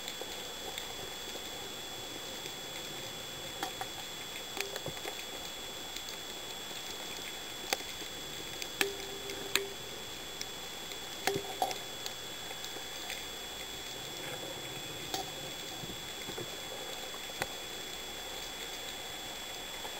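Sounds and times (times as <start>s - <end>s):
faint high whine: 0.0s - 19.9s
sharp clicks and crackles: 0.0s - 19.9s
short low hum: 0.3s - 19.9s.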